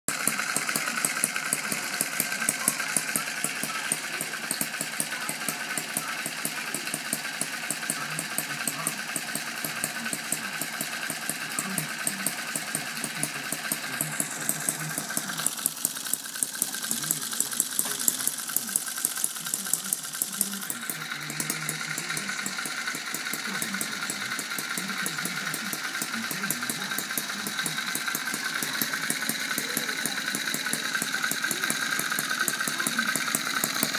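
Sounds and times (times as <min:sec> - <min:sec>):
small engine firing steadily: 0:00.1 - 0:33.9.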